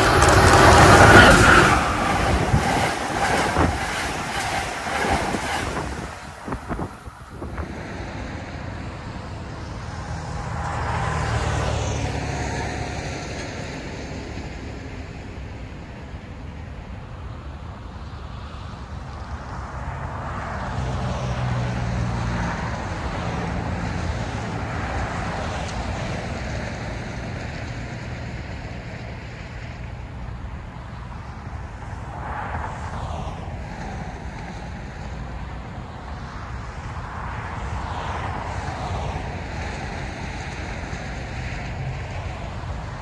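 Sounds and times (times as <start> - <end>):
freight train engine drone: 0.0 - 43.0.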